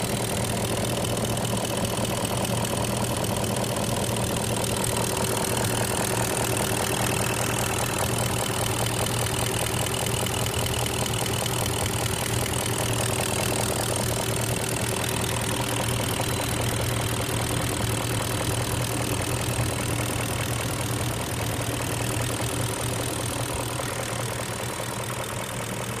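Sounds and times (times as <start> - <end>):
car engine idling: 0.0 - 26.0
fast engine knocking: 0.0 - 26.0.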